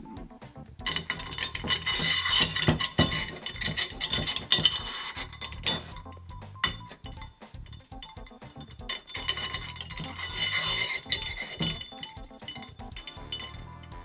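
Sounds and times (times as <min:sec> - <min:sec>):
metal parts clinking: 0:00.8 - 0:14.0.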